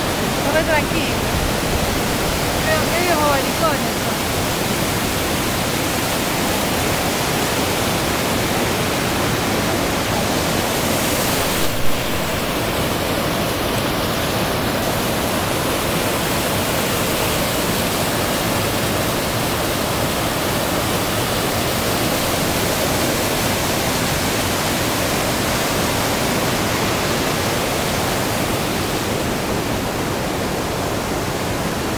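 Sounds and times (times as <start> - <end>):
water rushing over rocks: 0.0 - 31.9.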